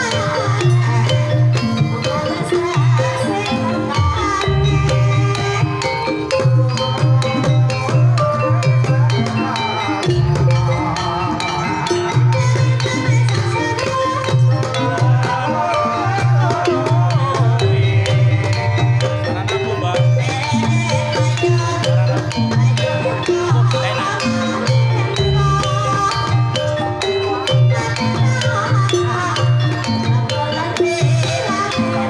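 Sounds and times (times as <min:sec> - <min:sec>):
struck gamelan notes: 0:00.0 - 0:32.0
woman singing ornamented line: 0:00.0 - 0:32.0.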